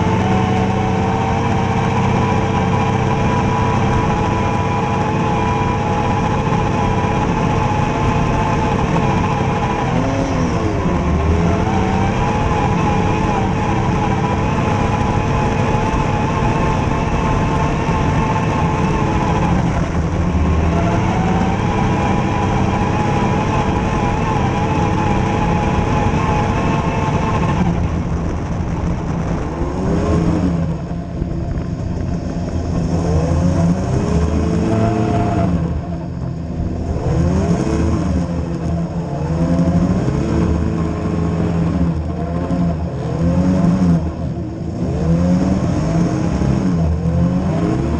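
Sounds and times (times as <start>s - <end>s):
vehicle engine revving: 0.0s - 47.9s.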